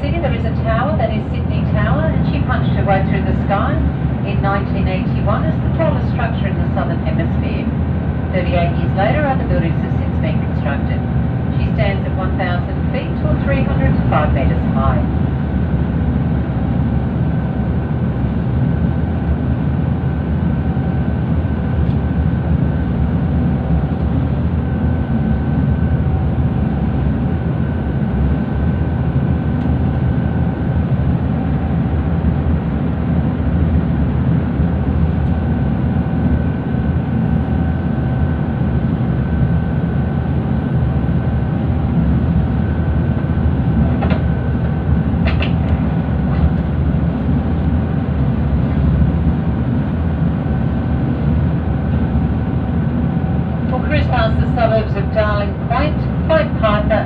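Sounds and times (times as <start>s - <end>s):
diesel engine drone: 0.0s - 57.0s
faint engine whine: 0.0s - 57.0s.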